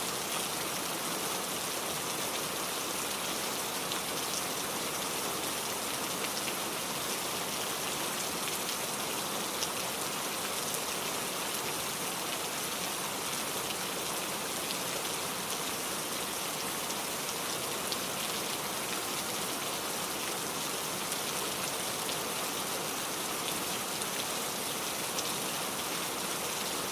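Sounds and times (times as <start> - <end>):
steady rainfall: 0.0 - 26.9.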